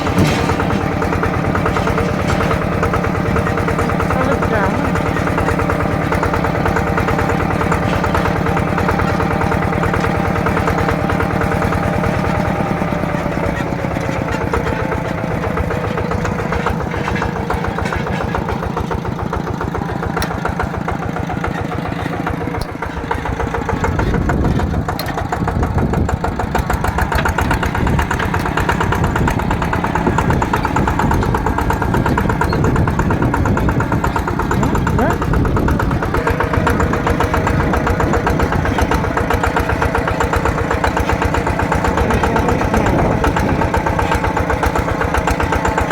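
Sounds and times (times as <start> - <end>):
diesel engine chugging: 0.0 - 45.9.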